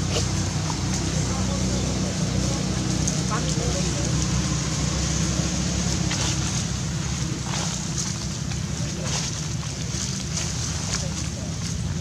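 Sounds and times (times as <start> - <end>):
dry leaf litter rustling: 0.0 - 12.0
steady low rumble: 0.0 - 12.0.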